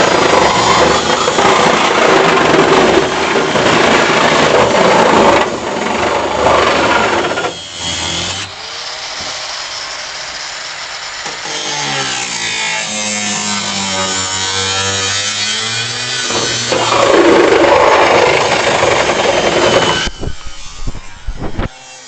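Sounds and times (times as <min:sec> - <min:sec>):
angle grinder cutting metal: 0:00.0 - 0:22.0.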